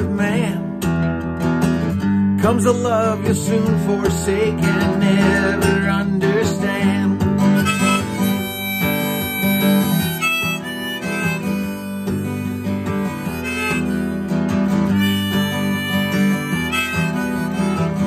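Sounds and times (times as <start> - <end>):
acoustic guitar accompaniment: 0.0 - 18.0
harmonica melody: 1.8 - 18.0.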